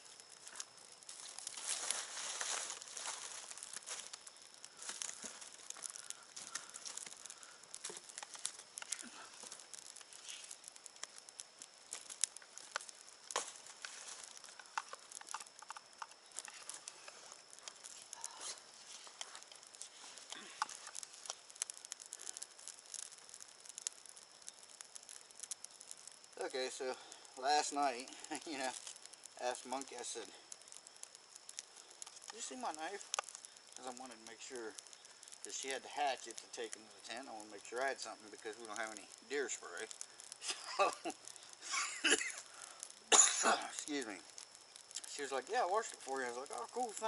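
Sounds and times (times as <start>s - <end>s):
campfire crackling: 0.0s - 47.0s
sharp pops of fire: 0.0s - 47.0s.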